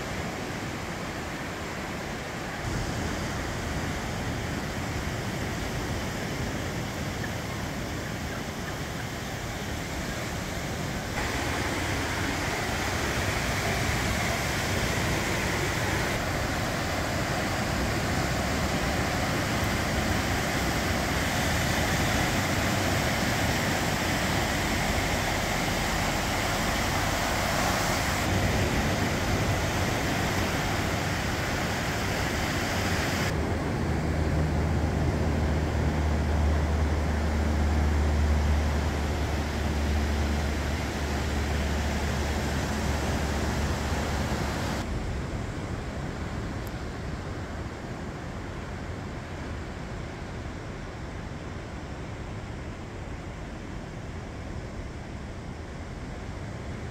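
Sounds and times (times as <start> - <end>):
ocean surf breaking on beach: 0.0 - 53.4.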